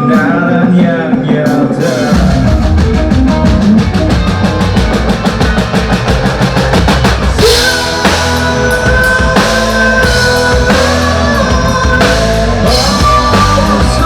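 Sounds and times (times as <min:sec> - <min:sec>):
drum kit beats: 0:00.0 - 0:14.0
rock band playing live: 0:00.0 - 0:14.0
held guitar lead notes: 0:02.0 - 0:14.0.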